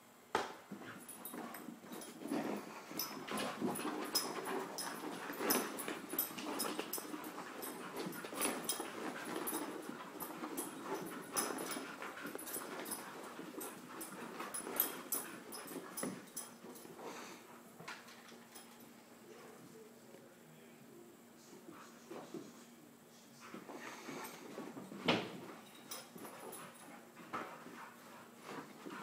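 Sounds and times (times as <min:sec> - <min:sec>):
puppies scuffling: 0:00.7 - 0:19.8, 0:23.4 - 0:29.0.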